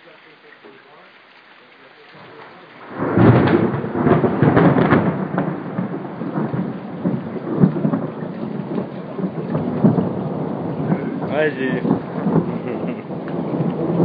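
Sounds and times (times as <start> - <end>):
thunder rolling: 2.2 - 14.0.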